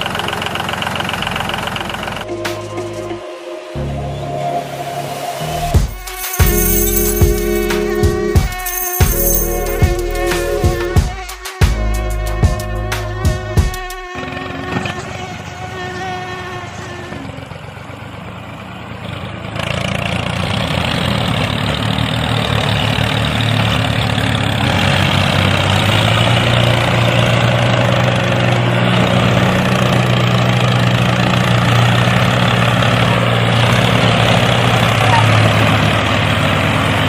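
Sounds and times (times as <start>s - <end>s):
small engine running: 0.0s - 2.3s, 5.8s - 37.0s.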